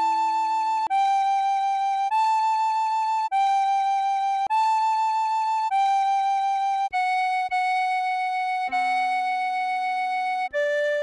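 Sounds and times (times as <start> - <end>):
tin whistle melody: 0.0 - 11.0.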